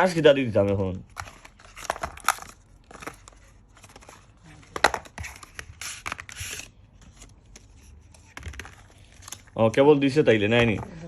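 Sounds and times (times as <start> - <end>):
paper and plastic packaging rustling: 0.0 - 11.0.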